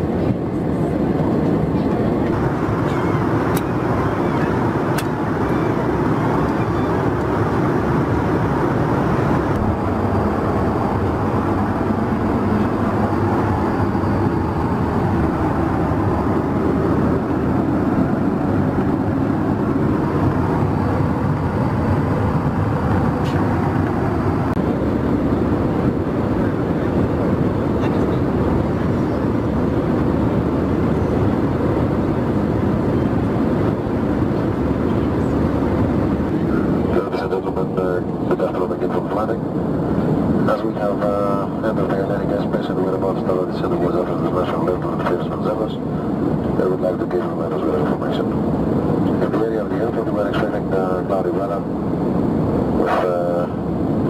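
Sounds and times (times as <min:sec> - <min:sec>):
airplane cabin noise: 0:00.0 - 0:54.0.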